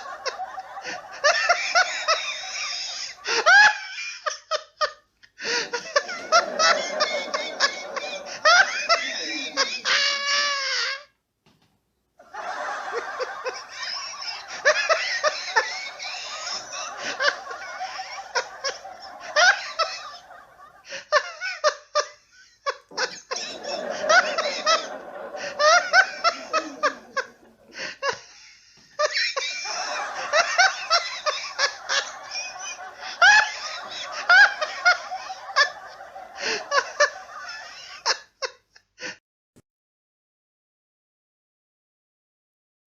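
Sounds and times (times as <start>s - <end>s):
audience laughing: 0.0s - 10.6s, 12.2s - 38.6s
man laughing heartily: 0.0s - 10.6s, 12.3s - 39.2s.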